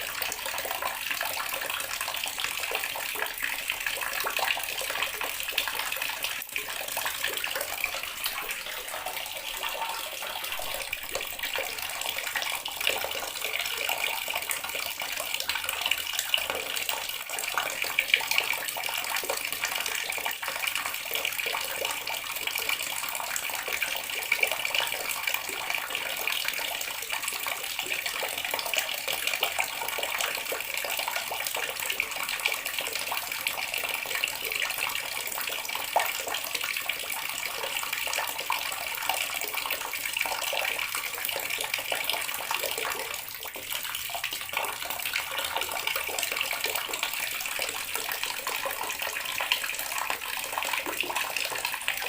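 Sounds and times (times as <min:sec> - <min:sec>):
water running from a tap: 0:00.0 - 0:52.0.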